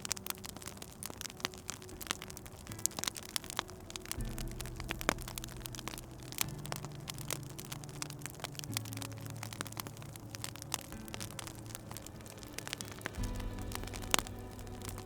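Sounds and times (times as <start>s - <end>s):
fire crackling in a fireplace: 0.0s - 15.0s
soft music with held low notes: 0.0s - 15.0s.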